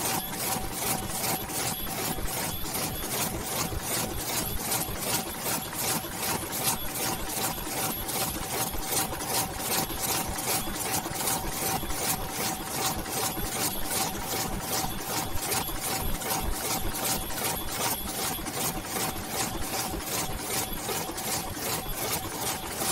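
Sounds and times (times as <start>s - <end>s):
machine clattering rhythmically: 0.0s - 22.9s.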